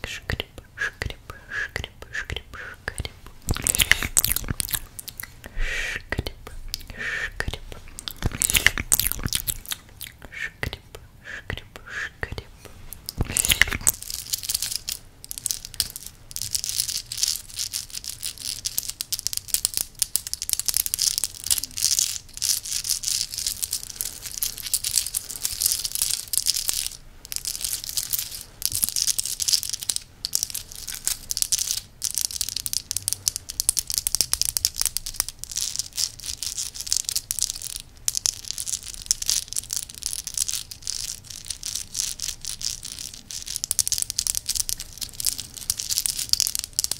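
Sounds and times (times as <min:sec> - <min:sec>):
necklace parts clicking and rattling: 0:02.9 - 0:05.4, 0:07.5 - 0:10.0, 0:12.9 - 0:46.9.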